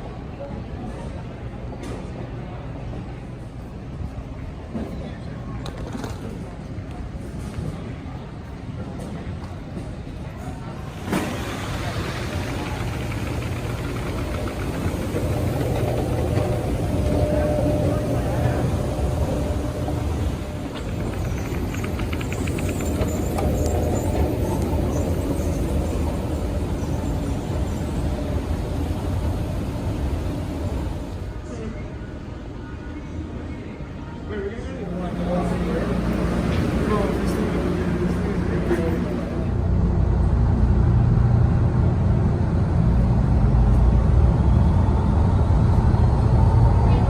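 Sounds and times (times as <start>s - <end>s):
shuttle train low rumble: 0.0s - 47.0s.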